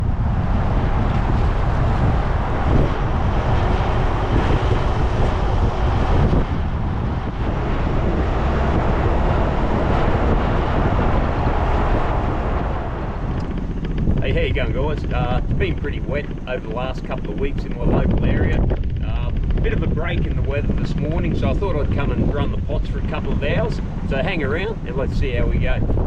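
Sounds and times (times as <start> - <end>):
boat motor running: 0.0 - 26.0
wind buffeting on microphone: 0.0 - 26.0.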